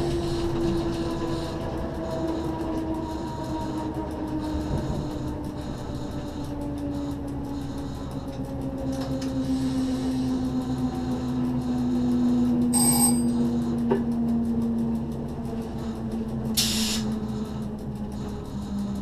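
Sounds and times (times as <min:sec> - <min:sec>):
train hum: 0:00.0 - 0:19.0.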